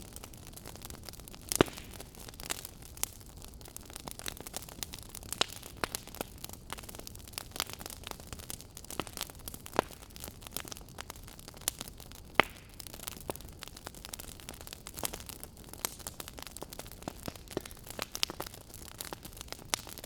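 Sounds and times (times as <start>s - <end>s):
sharp pops of fire: 0.0s - 3.2s, 3.9s - 20.0s
wood fire crackling: 0.0s - 20.0s.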